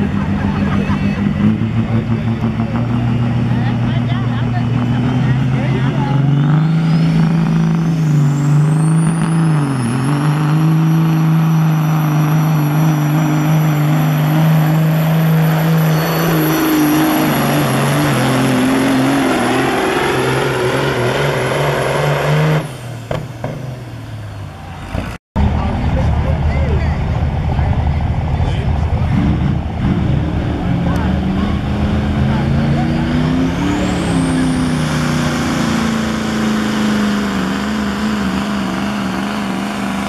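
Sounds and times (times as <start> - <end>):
diesel truck engine at full throttle: 0.0 - 40.0.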